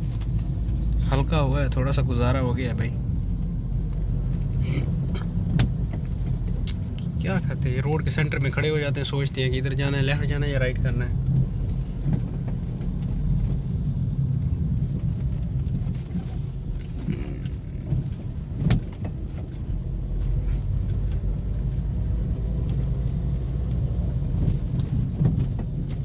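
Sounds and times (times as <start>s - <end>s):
car road rumble: 0.0s - 26.0s
rain ticks: 3.0s - 9.0s, 10.0s - 26.0s.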